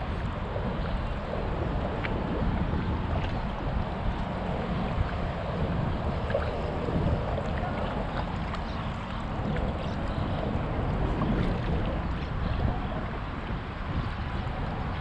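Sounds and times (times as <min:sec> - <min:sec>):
water lapping and splashing: 0:00.0 - 0:15.0
wind rumbling on microphone: 0:00.0 - 0:15.0.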